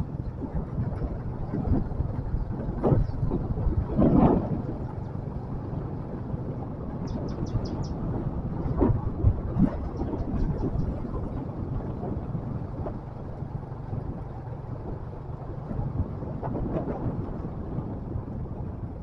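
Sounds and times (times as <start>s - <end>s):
motorcycle engine rumble: 0.0s - 19.0s
wind buffeting microphone: 0.0s - 19.0s.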